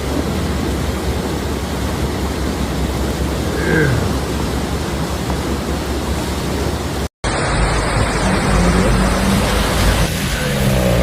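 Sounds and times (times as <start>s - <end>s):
car engine hum: 0.0s - 11.0s
heavy rain: 0.0s - 11.0s
road noise: 0.0s - 11.0s.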